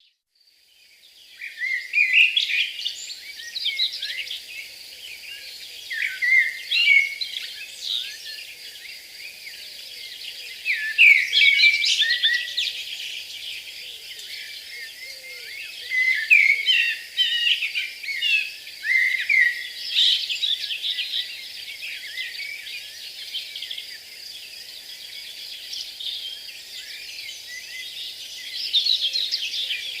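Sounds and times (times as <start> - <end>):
birds chirping: 1.0 - 30.0.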